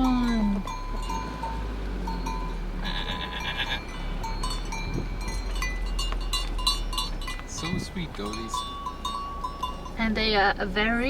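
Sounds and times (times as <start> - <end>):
goat bells clanking: 0.0 - 11.0.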